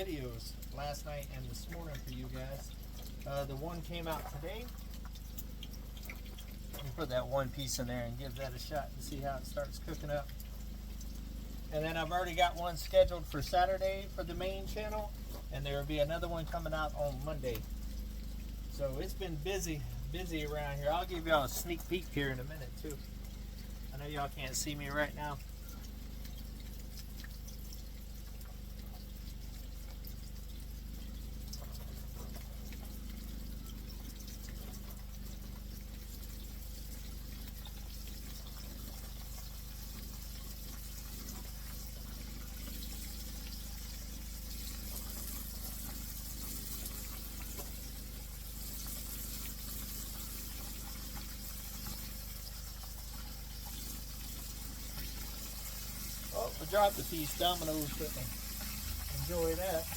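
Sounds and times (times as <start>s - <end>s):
grease sizzling and crackling: 0.0s - 59.9s.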